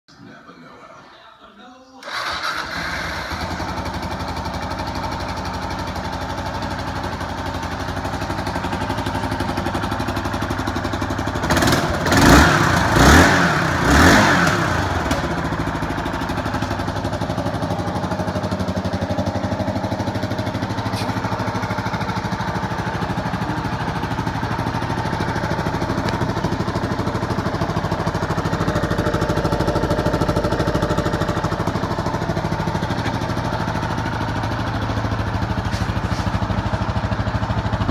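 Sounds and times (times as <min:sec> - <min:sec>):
motorcycle engine idling and revving: 0:02.1 - 0:37.9.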